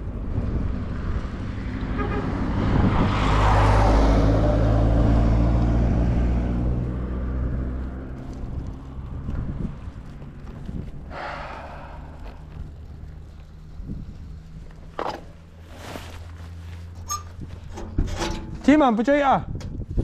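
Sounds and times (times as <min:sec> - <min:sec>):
motor vehicle passing by: 0:00.0 - 0:17.0.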